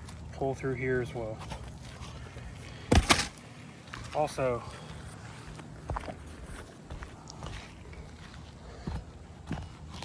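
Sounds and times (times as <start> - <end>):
footsteps on shingle roof: 0.0 - 10.0.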